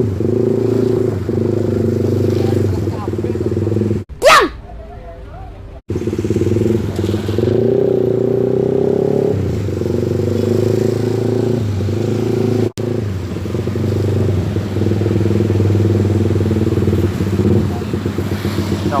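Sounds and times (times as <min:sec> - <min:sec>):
motorcycle engine revving and idling: 0:00.0 - 0:04.1, 0:05.4 - 0:19.0.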